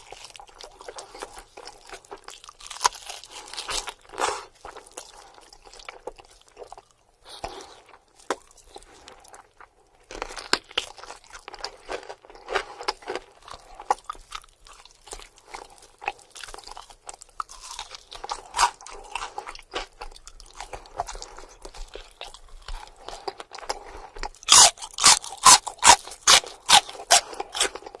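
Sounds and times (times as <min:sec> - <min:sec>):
chewing and crunching: 0:00.0 - 0:28.0.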